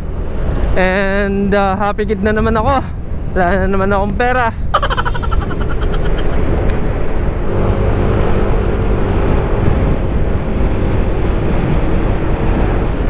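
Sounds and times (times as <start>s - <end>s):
wind rumble on microphone: 0.0s - 4.8s, 6.1s - 13.0s.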